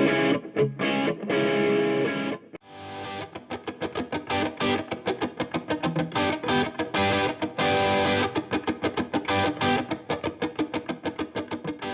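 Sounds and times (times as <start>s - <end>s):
guitar music with steady beat: 0.0s - 11.9s.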